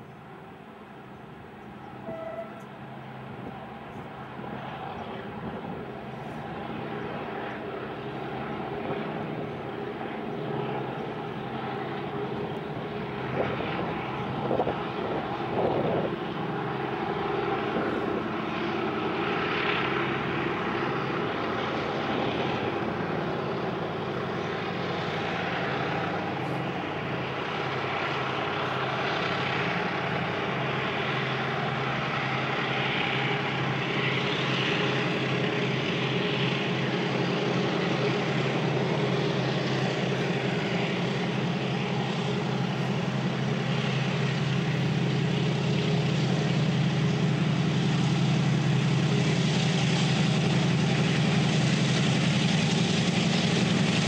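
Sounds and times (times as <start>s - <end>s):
diesel locomotive engines droning: 0.0s - 54.0s.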